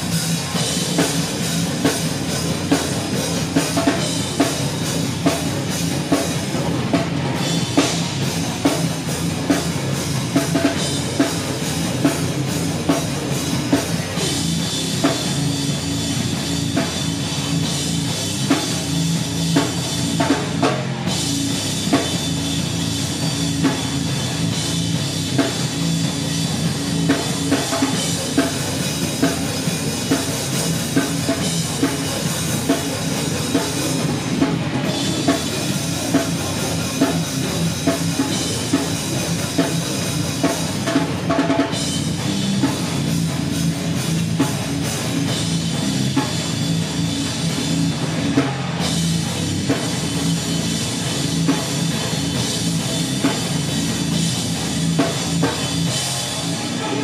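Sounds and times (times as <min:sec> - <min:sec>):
guitar: 0:00.0 - 0:57.0
live rock band: 0:00.0 - 0:57.0
pounding drums: 0:00.0 - 0:57.0.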